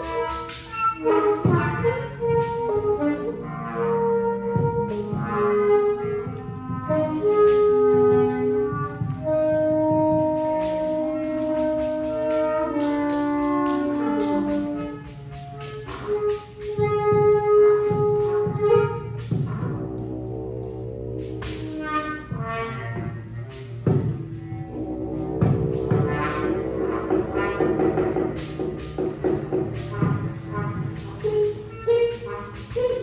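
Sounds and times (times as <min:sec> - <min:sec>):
saxophones and clarinet long notes: 0:00.0 - 0:33.0.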